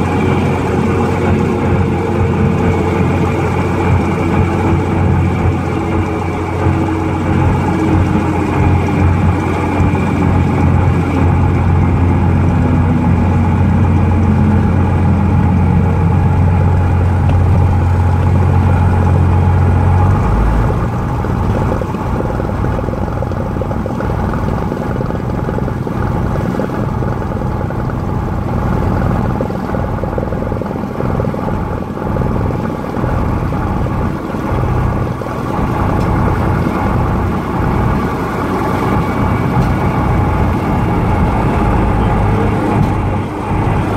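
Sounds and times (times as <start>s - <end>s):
light airplane engine and propeller: 0.0s - 43.9s.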